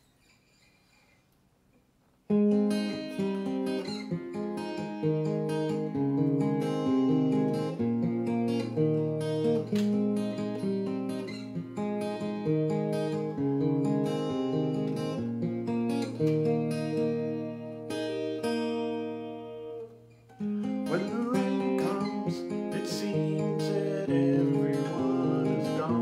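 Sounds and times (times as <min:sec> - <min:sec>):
acoustic guitar picked notes: 0:02.3 - 0:26.0.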